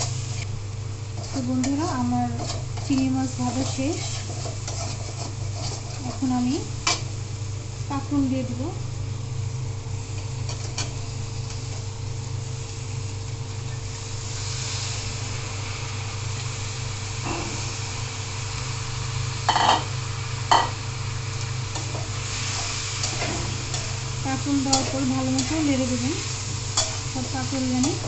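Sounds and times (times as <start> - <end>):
frying sizzle: 0.0 - 28.0.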